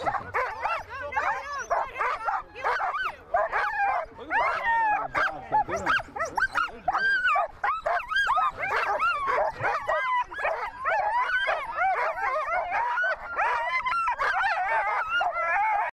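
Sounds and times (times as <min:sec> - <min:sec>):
sled dogs yelping and howling: 0:00.0 - 0:16.0.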